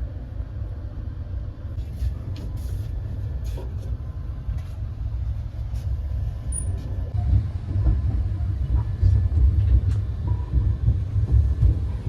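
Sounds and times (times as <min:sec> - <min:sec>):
train coach rumble: 0:00.0 - 0:12.0.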